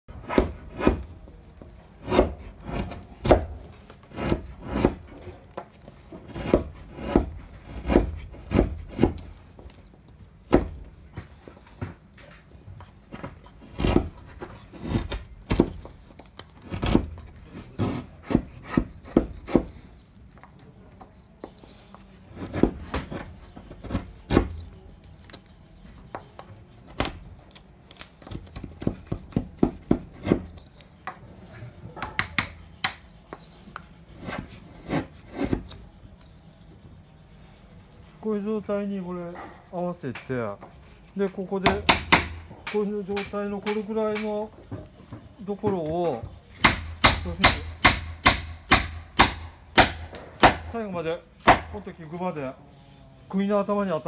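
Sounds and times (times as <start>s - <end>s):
blade scraping wood: 0.1s - 31.7s, 32.5s - 47.8s.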